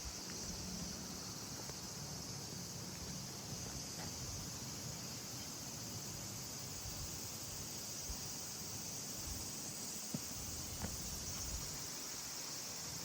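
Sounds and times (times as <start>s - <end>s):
crickets or cicadas shrilling: 0.0s - 13.0s.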